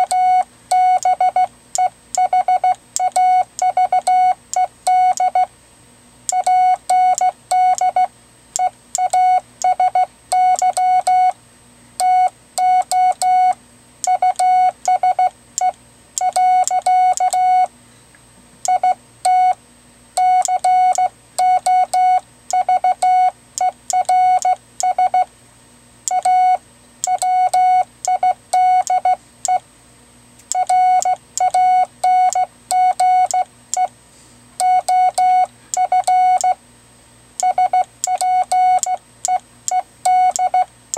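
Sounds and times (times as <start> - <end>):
morse code beeps: 0.0 - 5.5, 6.3 - 11.4, 12.0 - 17.7, 18.7 - 19.6, 20.2 - 25.3, 26.1 - 29.6, 30.5 - 33.9, 34.6 - 36.6, 37.4 - 40.7.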